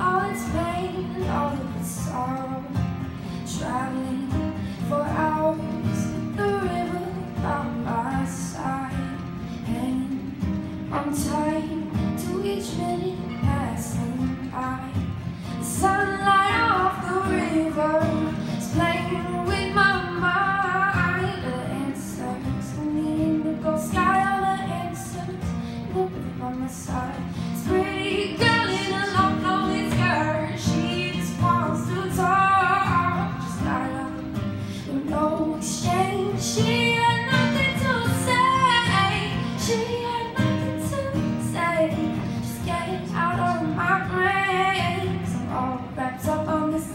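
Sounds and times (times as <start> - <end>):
acoustic guitar: 0.0 - 46.9
woman singing into a microphone: 0.0 - 46.9.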